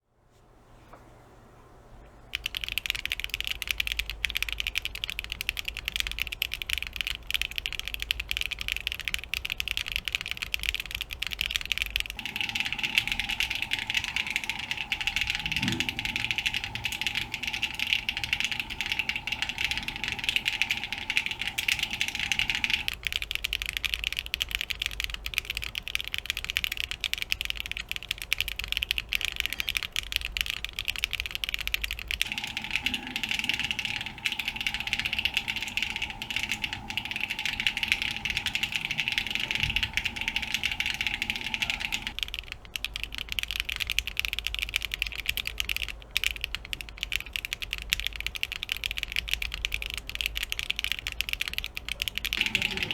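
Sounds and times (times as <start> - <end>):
clacky mechanical keyboard typing: 2.3 - 52.9.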